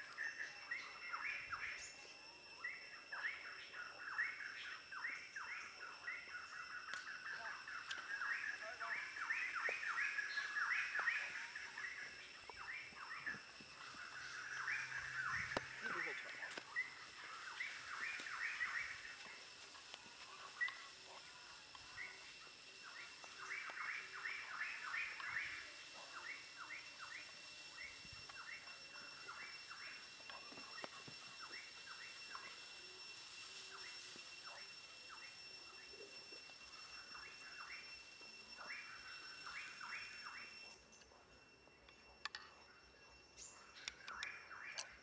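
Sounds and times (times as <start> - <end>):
small birds chirping: 0.0 - 41.2
steady high-pitched whine: 0.0 - 45.0.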